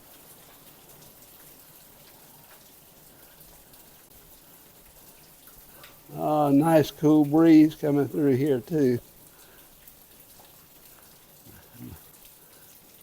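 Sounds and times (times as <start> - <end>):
light rain hiss: 0.0 - 13.0
raindrops ticking: 0.0 - 13.0.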